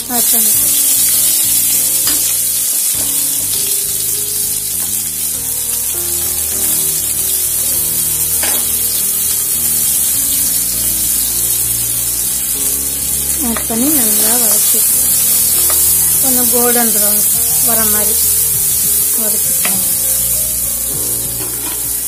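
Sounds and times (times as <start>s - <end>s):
onions sizzling in oil: 0.0s - 22.0s
seeds popping in oil: 0.0s - 22.0s.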